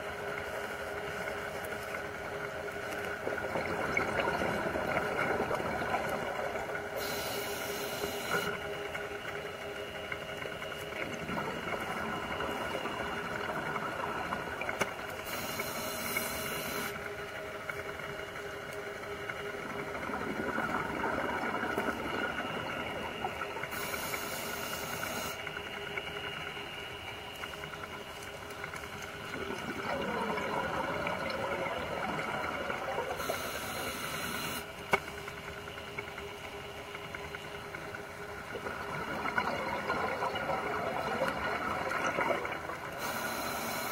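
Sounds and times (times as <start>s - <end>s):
bubbling: 0.0s - 43.9s
steady hum: 0.0s - 43.9s.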